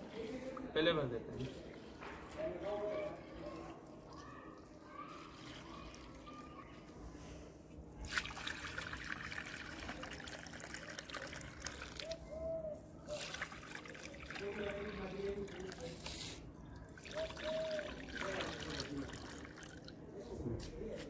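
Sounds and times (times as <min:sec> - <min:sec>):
water trickling into clay bowls: 0:00.0 - 0:20.1.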